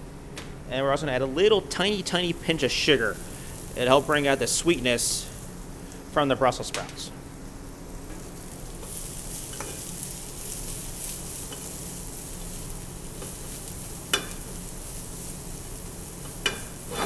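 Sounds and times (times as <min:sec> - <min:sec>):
food sizzling in a frying pan: 0:01.7 - 0:17.0.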